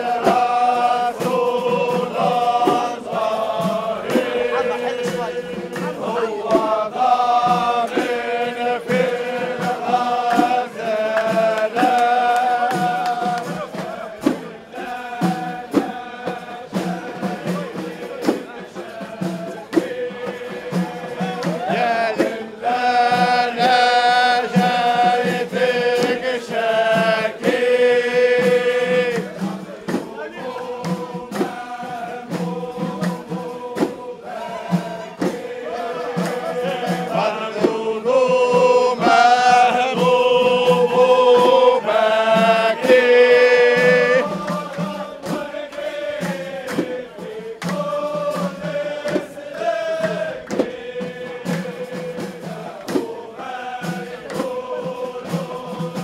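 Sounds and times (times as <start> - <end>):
men chanting in unison: 0.0 - 56.0
percussion strikes: 0.0 - 56.0.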